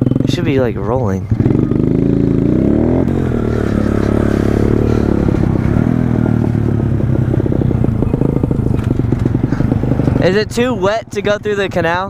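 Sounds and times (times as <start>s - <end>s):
small motorbike engine running: 0.0s - 10.3s.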